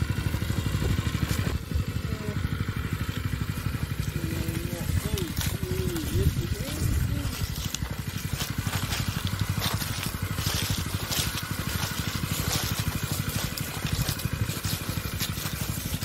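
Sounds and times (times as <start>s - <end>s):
small engine pulsing: 0.0s - 16.0s.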